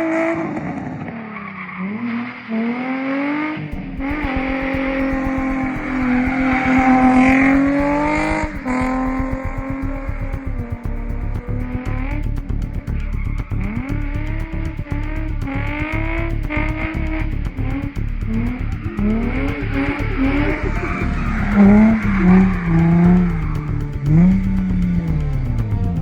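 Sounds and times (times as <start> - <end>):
car engine revving hard: 1.9 - 26.0.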